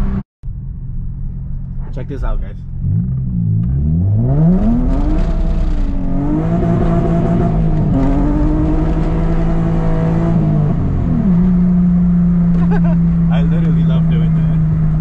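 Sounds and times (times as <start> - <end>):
car engine accelerating hard: 1.5 - 15.0.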